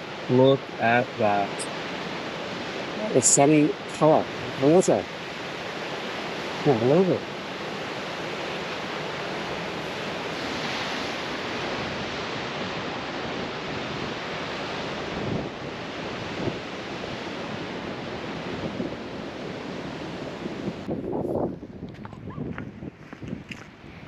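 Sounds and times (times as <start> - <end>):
ocean surf on rocks: 0.0 - 21.8
wind buffeting microphone: 0.0 - 24.0.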